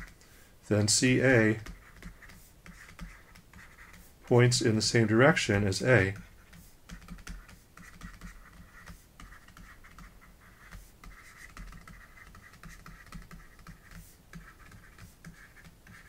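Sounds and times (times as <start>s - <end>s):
stylus scratching on tablet: 0.0s - 16.0s.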